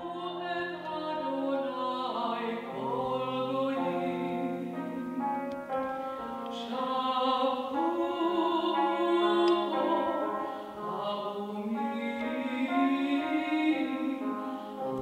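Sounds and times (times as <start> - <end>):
woman singing classical: 0.0 - 15.0.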